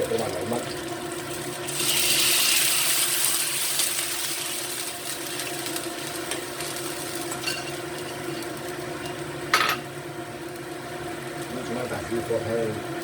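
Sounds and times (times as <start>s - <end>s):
meat sizzling in a hot pan: 0.0s - 13.0s.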